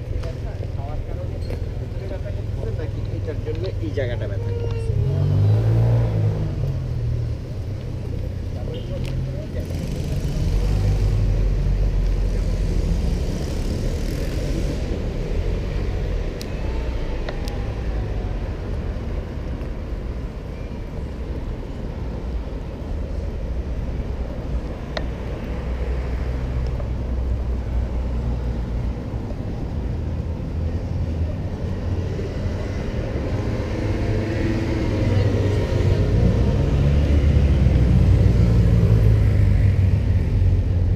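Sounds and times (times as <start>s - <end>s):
low rumble of traffic: 0.0s - 40.9s.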